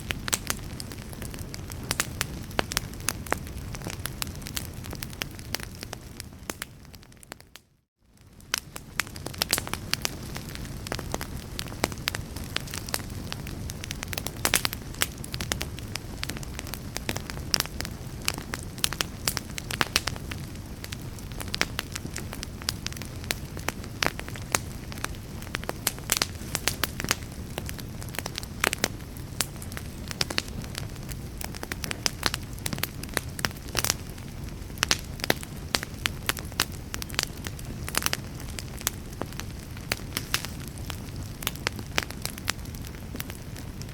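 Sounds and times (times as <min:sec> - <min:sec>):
burning logs crackling and popping: 0:00.0 - 0:43.9
low rumble of flames: 0:00.0 - 0:43.9.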